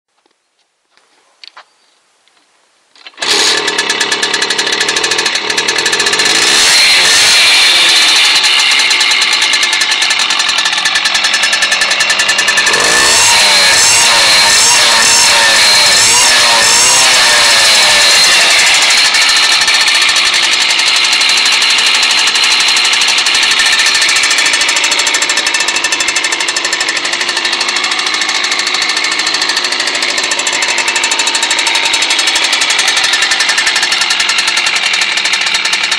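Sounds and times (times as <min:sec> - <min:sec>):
moped engine revving and idling: 0:03.2 - 0:35.9.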